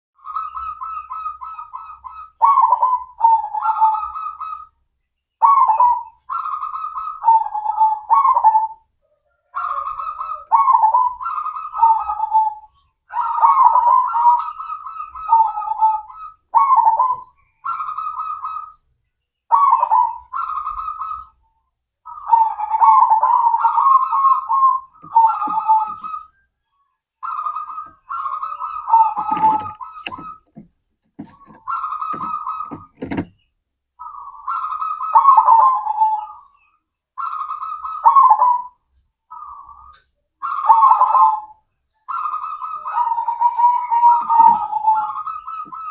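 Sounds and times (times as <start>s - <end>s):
dove cooing: 0.2s - 4.8s, 5.4s - 18.8s, 19.5s - 21.4s, 22.1s - 26.4s, 27.2s - 33.4s, 34.0s - 45.9s.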